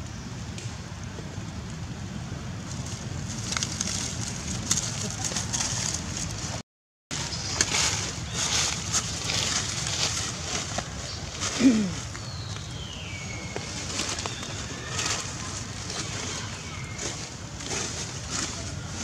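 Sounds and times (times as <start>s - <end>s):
dry leaves rustling and crackling: 2.6s - 19.0s.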